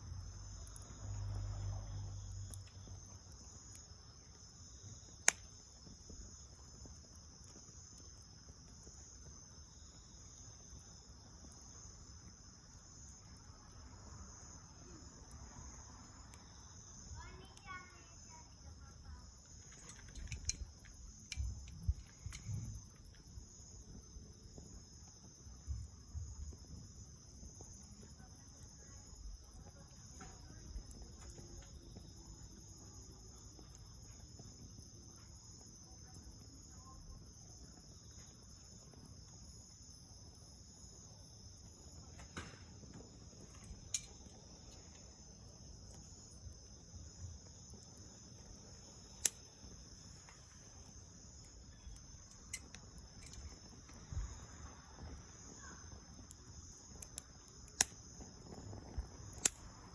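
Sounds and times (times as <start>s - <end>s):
bonfire crackling and popping: 0.0s - 59.9s
crickets trilling: 0.0s - 59.9s.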